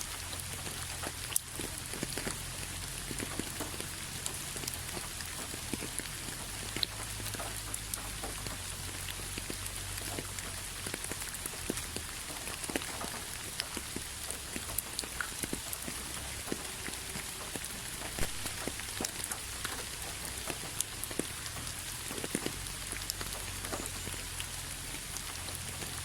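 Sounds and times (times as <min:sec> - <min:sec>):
rain drops ticking on hard surface: 0:00.0 - 0:26.0
rain hiss: 0:00.0 - 0:26.0.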